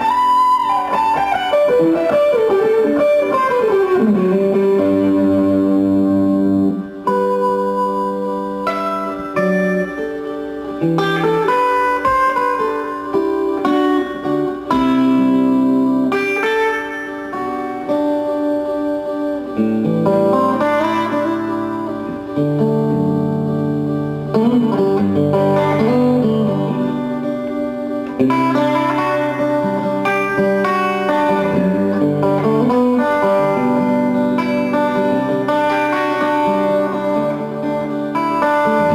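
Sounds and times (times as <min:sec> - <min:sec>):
guitar playing: 0:00.0 - 0:38.9.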